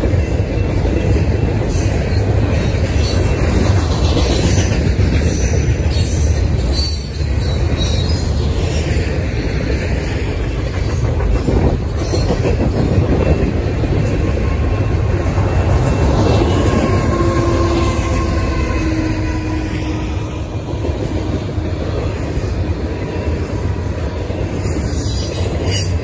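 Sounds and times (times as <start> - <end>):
diesel locomotive engine drone: 0.0 - 26.0
steel wheels clattering on rail: 0.0 - 26.0.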